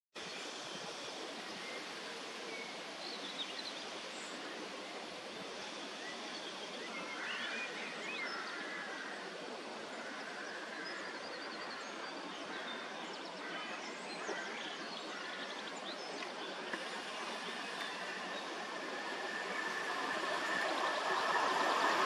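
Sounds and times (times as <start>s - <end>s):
outdoor background hiss: 0.2s - 22.0s.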